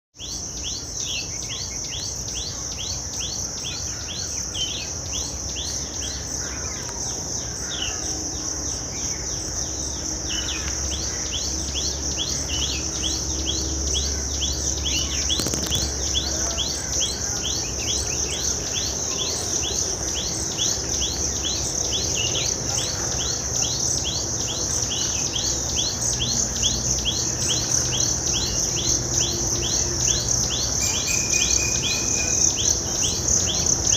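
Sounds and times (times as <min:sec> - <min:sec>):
birds calling: 0:00.2 - 0:33.9
insects droning: 0:00.2 - 0:33.9.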